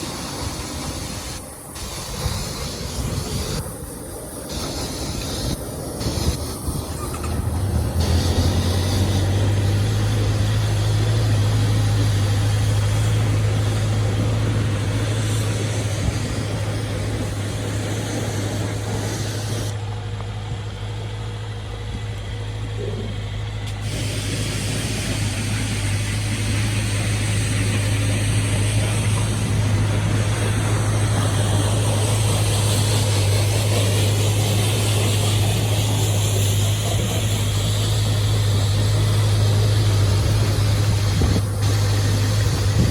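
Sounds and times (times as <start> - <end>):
motorcycle engine humming: 0.0 - 42.9.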